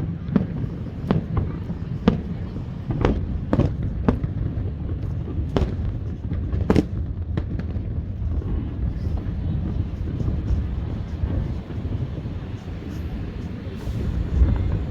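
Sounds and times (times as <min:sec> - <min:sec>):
fireworks bangs: 0:00.0 - 0:14.9
fireworks crackling: 0:00.0 - 0:14.9.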